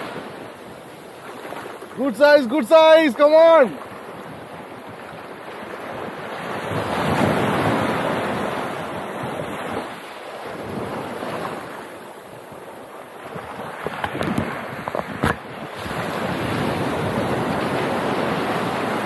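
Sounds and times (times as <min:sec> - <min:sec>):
sea surf washing on sand: 0:00.0 - 0:19.0
wind buffeting microphone: 0:03.6 - 0:19.0.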